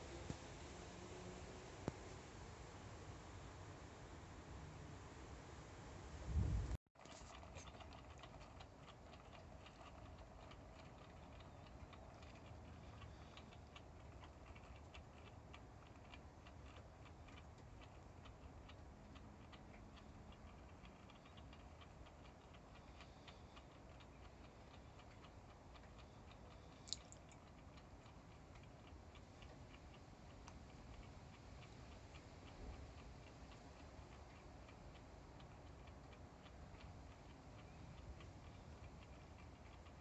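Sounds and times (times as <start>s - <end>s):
turntable motor ticking: 7.8s - 40.0s.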